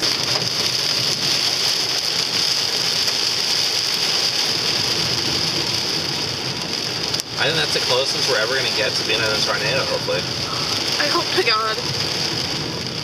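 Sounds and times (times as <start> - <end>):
hail and rain drumming on car roof: 0.0 - 13.0.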